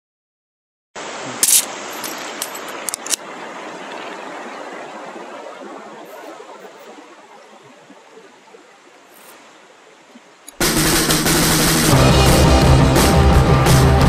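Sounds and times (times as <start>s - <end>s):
river rushing: 1.0s - 14.0s.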